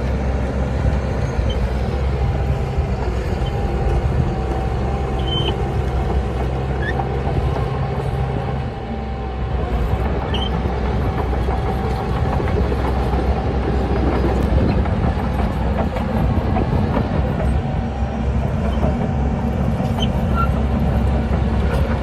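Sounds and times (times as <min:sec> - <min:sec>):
deep engine rumble: 0:00.0 - 0:22.0.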